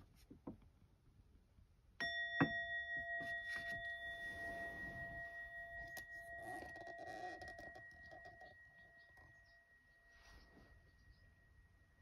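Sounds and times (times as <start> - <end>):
brass bowl bell ringing: 2.0 - 12.0.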